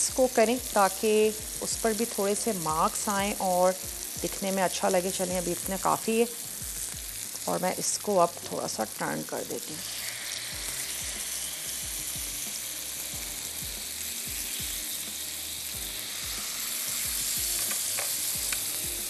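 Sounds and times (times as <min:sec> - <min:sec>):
food sizzling on a grill pan: 0:00.0 - 0:19.0.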